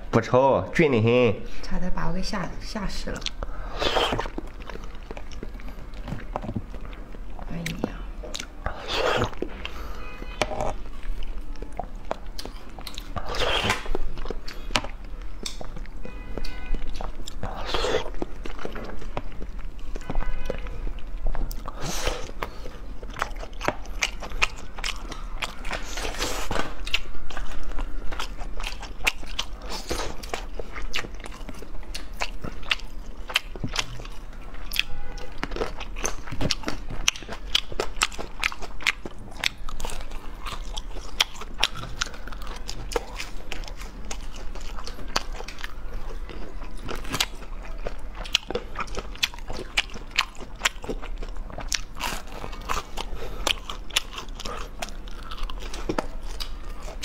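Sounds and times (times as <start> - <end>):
crunchy food chewing: 3.2 - 57.0.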